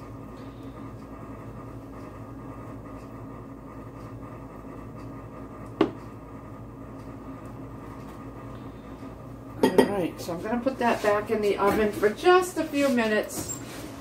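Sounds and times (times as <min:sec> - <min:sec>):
appliance or fan humming: 0:00.0 - 0:14.0.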